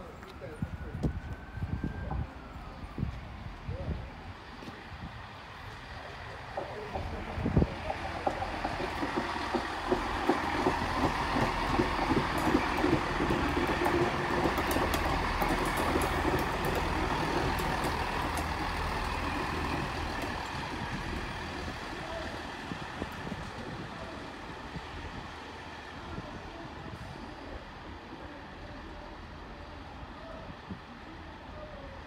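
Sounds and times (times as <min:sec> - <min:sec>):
diesel train engines: 0:00.0 - 0:32.0
train wheels on rails: 0:04.4 - 0:31.7.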